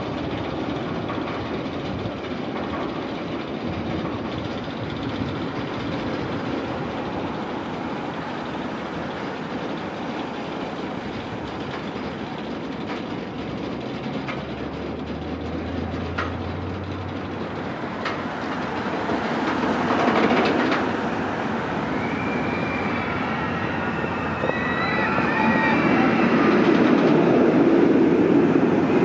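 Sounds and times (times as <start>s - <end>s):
roller coaster chain lift rumble: 0.0s - 29.0s.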